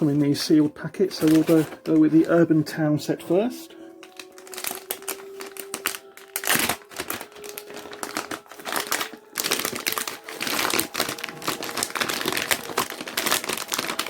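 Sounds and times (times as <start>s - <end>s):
plastic packet crinkling: 0.0s - 2.5s, 3.9s - 14.0s.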